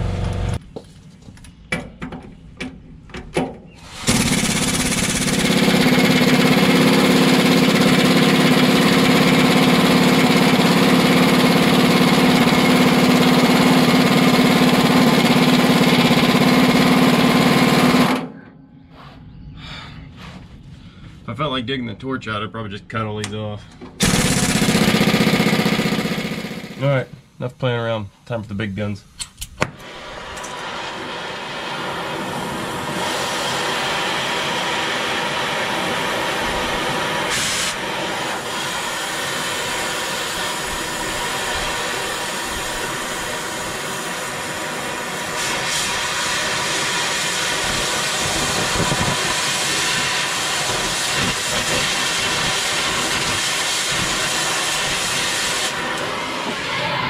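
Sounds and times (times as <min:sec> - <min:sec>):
cutting torch hissing: 0:03.7 - 0:18.2, 0:24.0 - 0:57.0.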